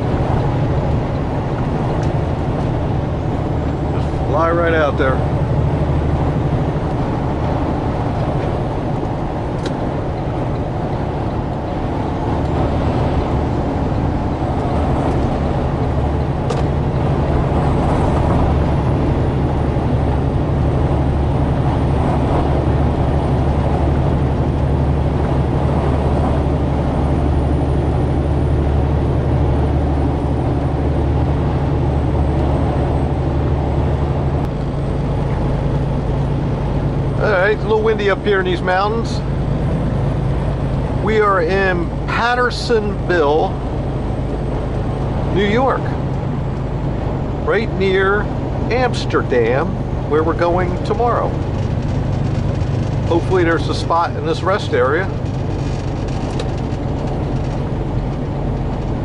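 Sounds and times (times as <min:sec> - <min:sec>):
diesel engine droning: 0:00.0 - 0:59.0
road and wind noise: 0:00.0 - 0:59.0.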